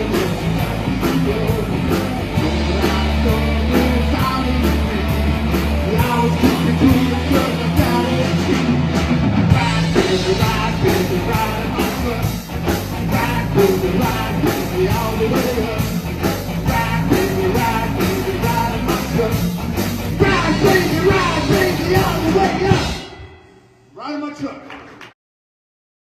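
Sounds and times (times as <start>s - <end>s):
bass guitar: 0.0s - 23.2s
electric guitar: 0.0s - 23.4s
drums keeping a beat: 0.0s - 23.5s.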